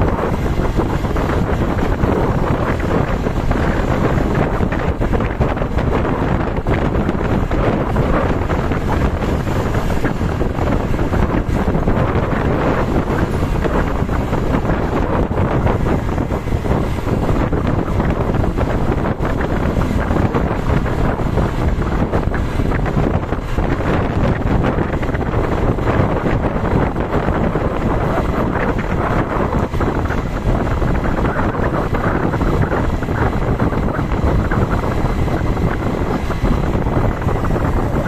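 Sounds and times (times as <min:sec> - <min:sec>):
moving vehicle rumble: 0:00.0 - 0:38.0
wind buffeting microphone: 0:00.0 - 0:38.0.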